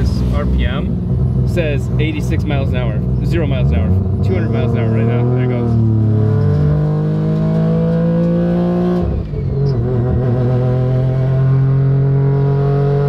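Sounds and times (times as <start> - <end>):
rotary engine accelerating: 0.0 - 13.0.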